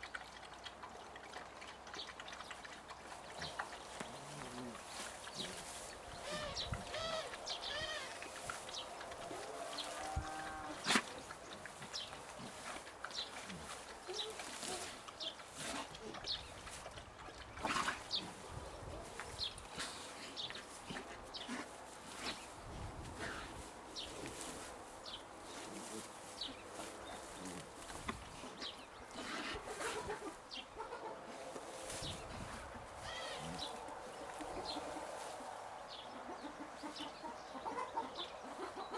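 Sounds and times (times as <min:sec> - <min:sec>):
chickens clucking: 0:00.7 - 0:38.9
birds chirping: 0:01.9 - 0:38.9.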